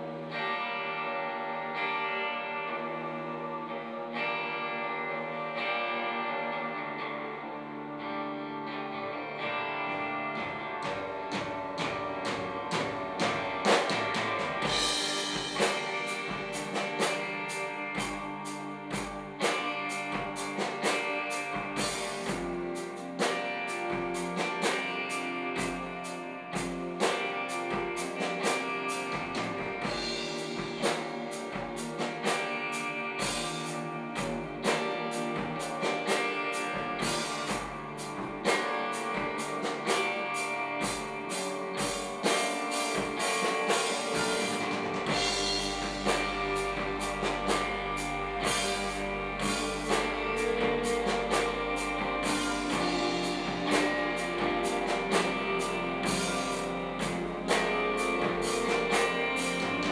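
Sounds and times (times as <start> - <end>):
electric bass: 0.0 - 59.9
electric guitars: 0.0 - 59.9
drum kit beat: 9.5 - 59.9.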